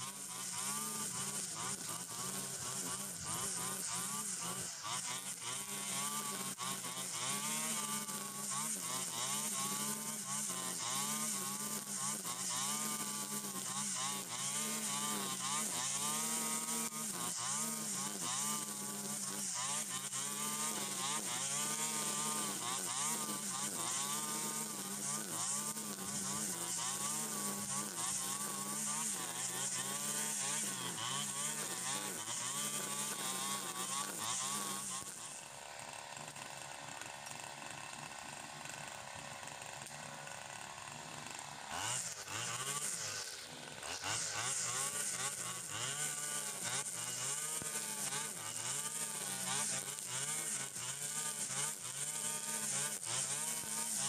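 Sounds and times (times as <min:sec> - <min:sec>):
brush cutter cutting grass: 0:00.0 - 0:54.0.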